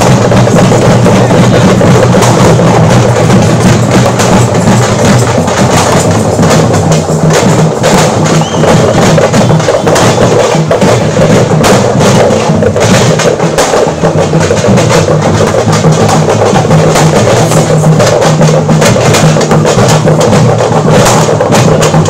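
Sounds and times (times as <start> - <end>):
fast dense drumbeats: 0.0 - 22.0.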